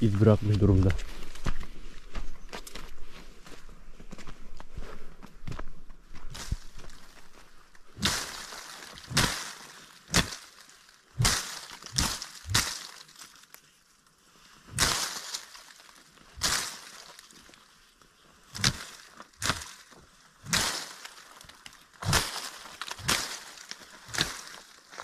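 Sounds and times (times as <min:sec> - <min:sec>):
footsteps crunching on stony ground: 0:00.0 - 0:25.0.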